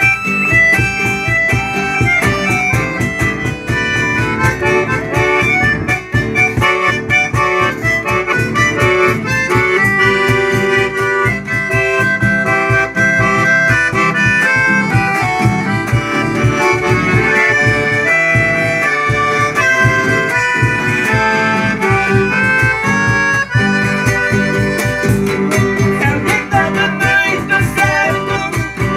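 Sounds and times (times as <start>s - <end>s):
accordion melody: 0.0s - 28.9s
strummed acoustic guitar: 0.0s - 28.9s.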